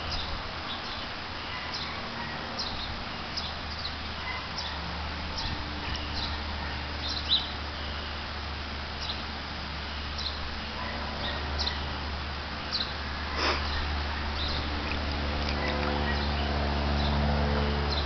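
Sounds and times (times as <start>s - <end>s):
small birds chirping: 0.0s - 8.3s, 8.9s - 18.0s.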